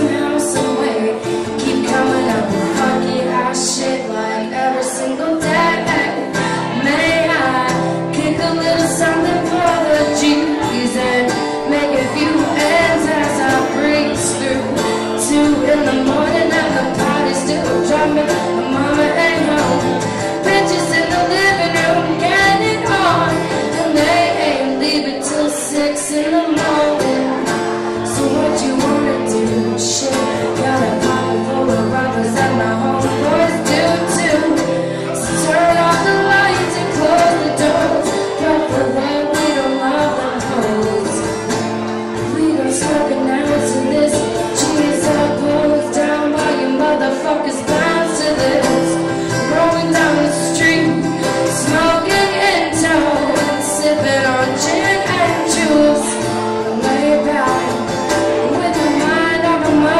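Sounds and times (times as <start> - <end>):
acoustic guitar strumming: 0.0 - 59.9
woman singing: 0.0 - 59.9.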